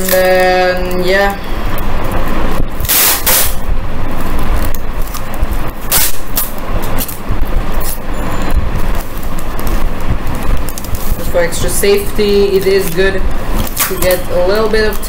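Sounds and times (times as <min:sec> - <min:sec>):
adhesive tape ripping off roll: 0:00.0 - 0:01.0, 0:01.8 - 0:08.1, 0:08.8 - 0:15.0
rumbling handling noise: 0:00.0 - 0:15.0.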